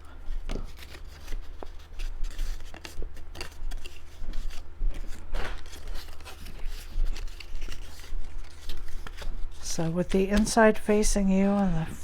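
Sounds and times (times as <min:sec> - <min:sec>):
cardstock being folded and creased: 0:00.1 - 0:10.8
paper scraping: 0:00.3 - 0:12.0.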